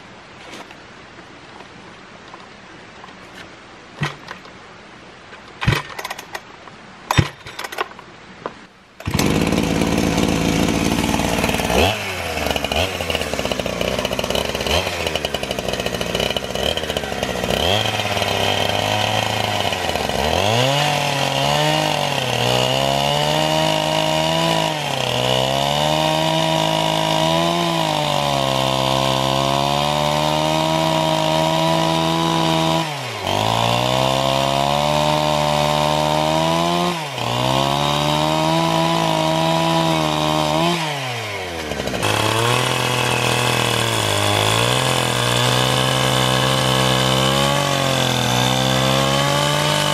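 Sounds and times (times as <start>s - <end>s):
chainsaw cutting wood: 4.0s - 4.4s, 5.6s - 6.3s, 9.0s - 49.9s.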